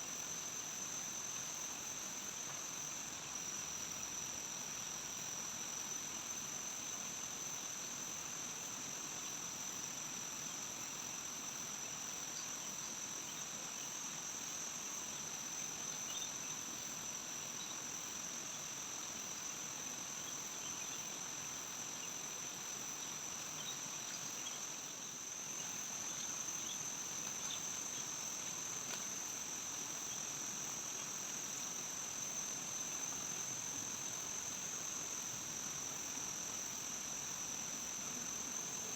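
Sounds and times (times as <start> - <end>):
faint insect chirps: 0.0 - 38.9
insects droning: 0.0 - 38.9.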